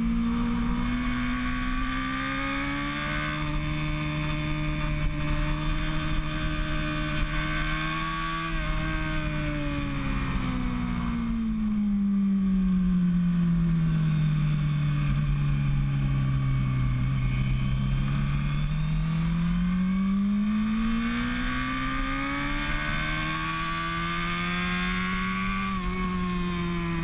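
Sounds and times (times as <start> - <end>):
racing motorcycle engine: 0.0 - 27.0.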